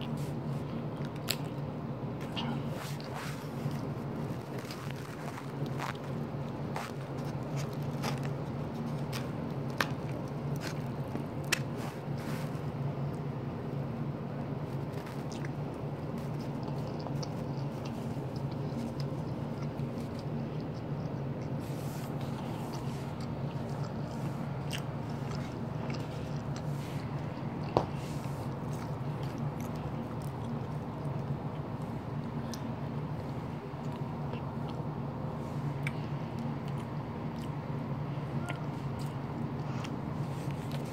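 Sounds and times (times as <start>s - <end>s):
person chewing crunchy food: 2.3s - 13.3s, 14.6s - 40.9s.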